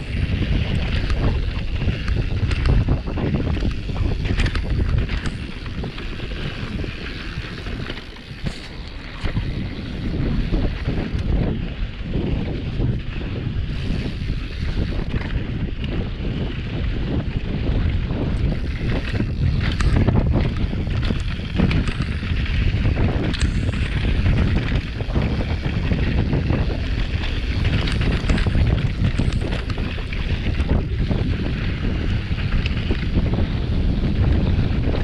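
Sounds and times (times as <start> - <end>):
bike clattering over bumps: 0.0 - 35.0
bike tyres on dirt trail: 0.0 - 35.0
wind buffeting microphone: 0.0 - 35.0.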